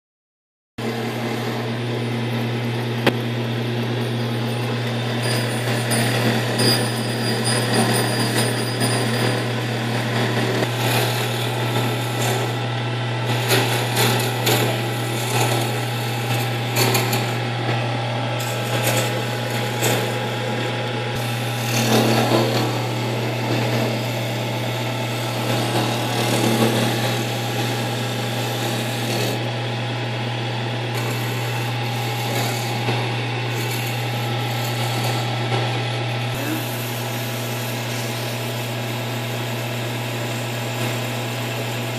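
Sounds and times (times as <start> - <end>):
drill bit scraping wood: 0.8 - 41.9
lathe motor humming: 0.8 - 41.9.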